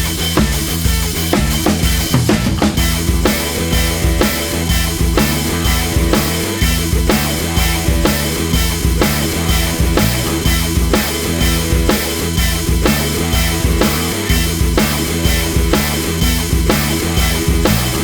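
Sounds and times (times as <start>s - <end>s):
bass line: 0.0s - 18.0s
drum kit beat: 0.0s - 18.0s
rock music: 0.0s - 18.0s.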